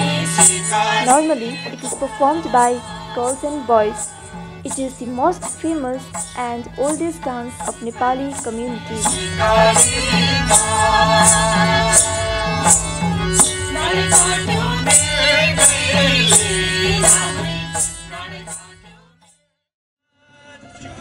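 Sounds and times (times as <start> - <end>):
hand drum: 0.0 - 18.6
sharp rhythmic strokes: 0.0 - 18.6
person singing a folk melody: 0.0 - 19.0.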